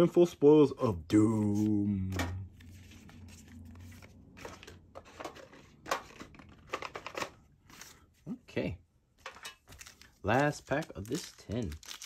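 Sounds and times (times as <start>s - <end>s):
trading cards and wrappers rustling: 1.1s - 8.4s, 9.2s - 12.0s.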